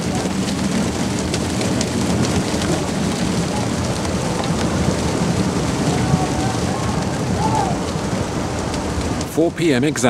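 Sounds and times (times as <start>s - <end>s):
rush of water and spray: 0.0s - 10.0s.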